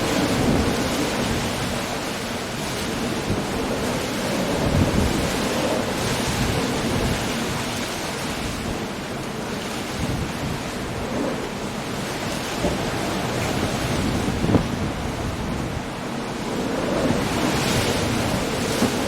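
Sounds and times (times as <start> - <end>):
heavy rain: 0.0 - 19.0
surf breaking on rocks: 0.0 - 19.0.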